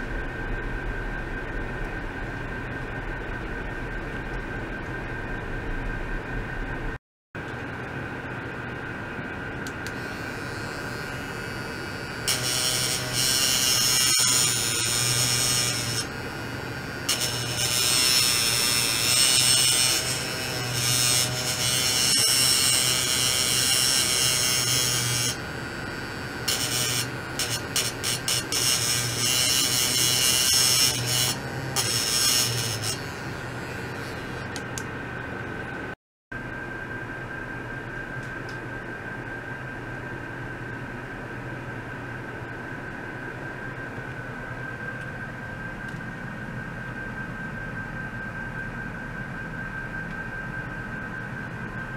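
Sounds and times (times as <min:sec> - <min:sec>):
ultrasonic probe buzzing whine: 0:00.0 - 0:51.9.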